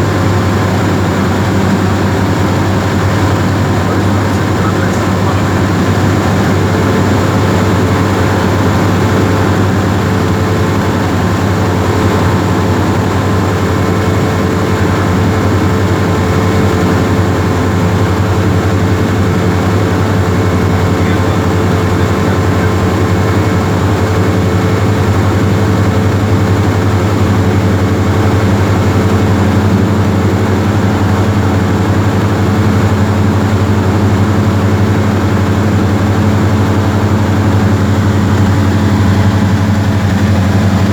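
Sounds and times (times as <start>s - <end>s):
airplane engine and propeller drone: 0.0s - 40.9s.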